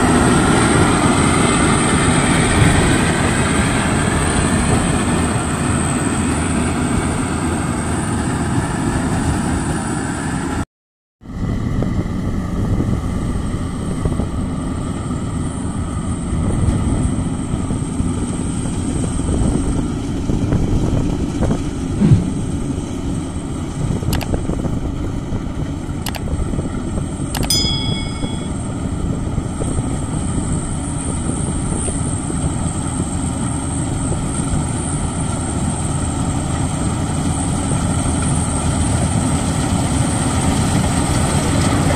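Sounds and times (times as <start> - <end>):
combine harvester running: 0.0 - 10.5, 11.3 - 41.9.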